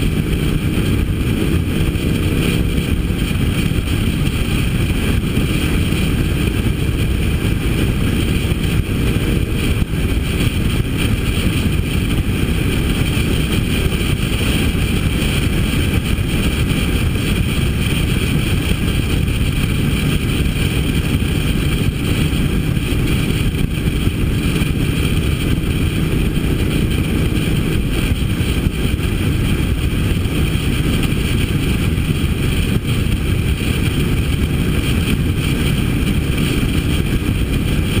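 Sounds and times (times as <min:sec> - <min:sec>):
motorcycle engine running: 0:00.0 - 0:38.0
wind rush: 0:00.0 - 0:38.0.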